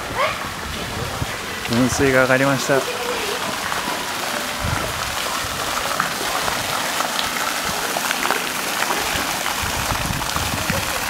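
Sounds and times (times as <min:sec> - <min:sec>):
fountain water splashing into pool: 0:00.0 - 0:11.0.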